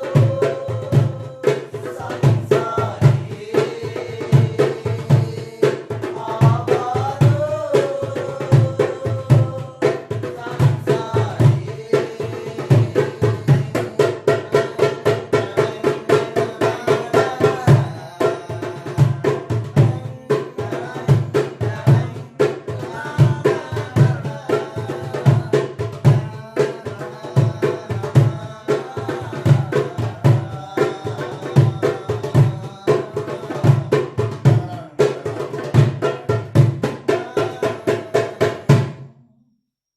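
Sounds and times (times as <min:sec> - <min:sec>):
goblet drum fast rhythm: 0:00.0 - 0:39.1.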